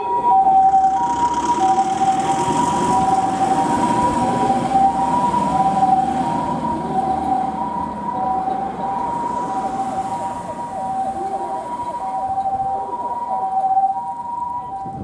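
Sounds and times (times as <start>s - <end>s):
two-tone ambulance siren: 0.0s - 15.0s
vehicle engine and road noise: 0.0s - 15.0s.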